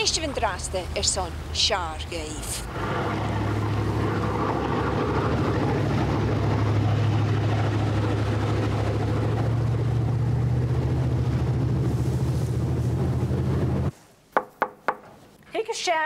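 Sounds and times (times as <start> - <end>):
motorboat engine droning: 0.0 - 13.9
water rushing past hull: 0.0 - 13.9.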